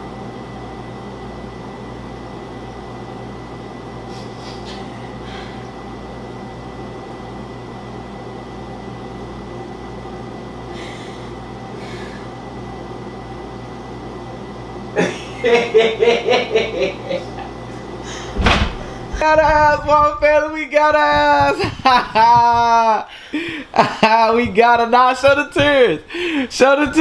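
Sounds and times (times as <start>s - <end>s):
room hum: 0.0s - 27.0s.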